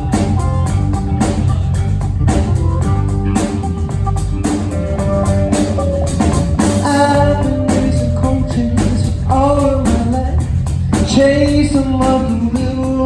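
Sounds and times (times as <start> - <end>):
drum kit steady beat: 0.0 - 13.0
electric guitar bending notes: 0.0 - 13.0.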